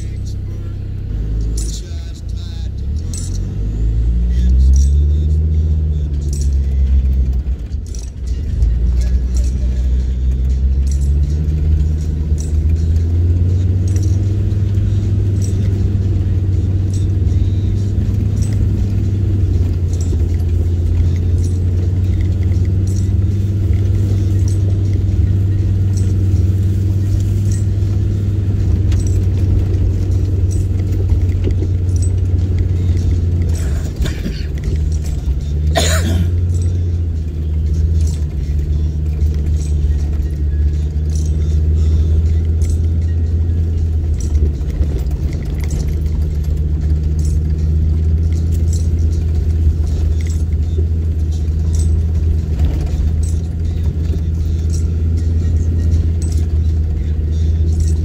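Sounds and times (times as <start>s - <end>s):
engine low drone: 0.0s - 58.0s
light clicks and rattles: 4.3s - 58.0s.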